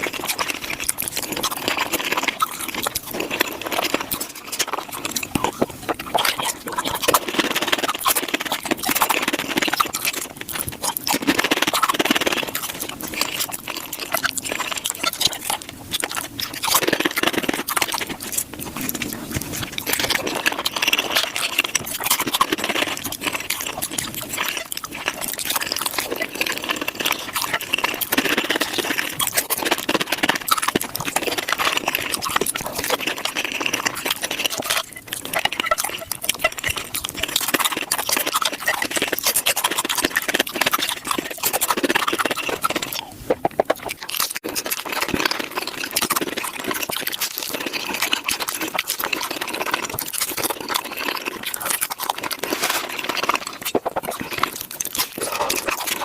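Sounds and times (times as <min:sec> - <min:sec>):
rapid crunching and chewing: 0:00.0 - 0:56.0.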